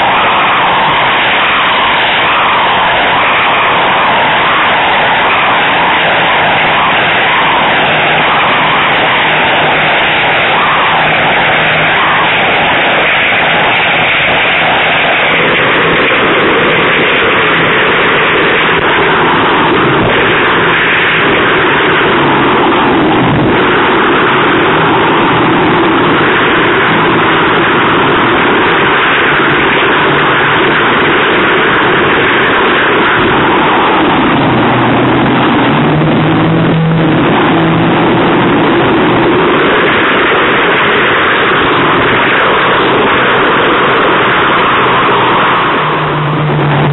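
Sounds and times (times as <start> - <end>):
outboard engines running hard: 0.0 - 46.9
wind and spray rushing: 0.0 - 46.9.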